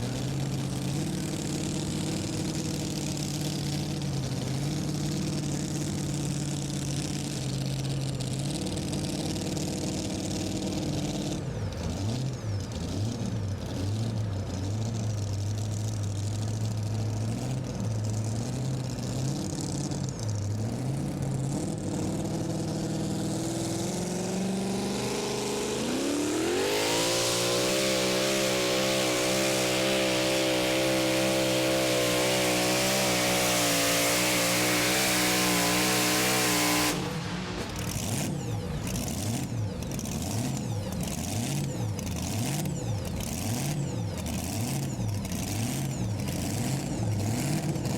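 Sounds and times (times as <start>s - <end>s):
pulling truck engine revving: 0.0s - 47.9s.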